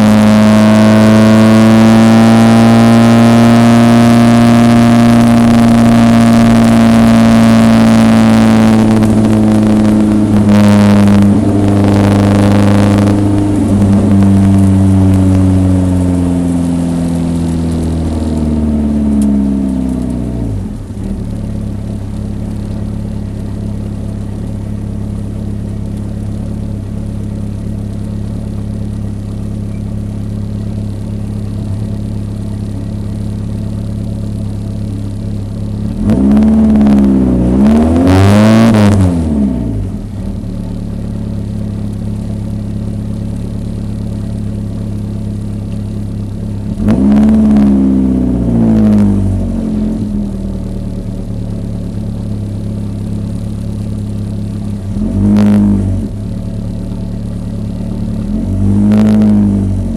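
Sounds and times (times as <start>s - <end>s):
car engine slowing and idling: 0.0s - 59.9s.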